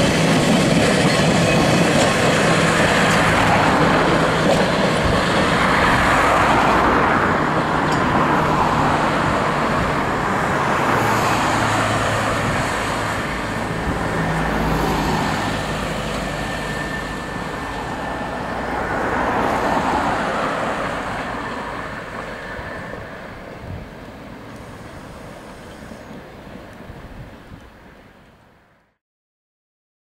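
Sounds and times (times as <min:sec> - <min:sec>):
cars driving past: 0:01.6 - 0:26.4.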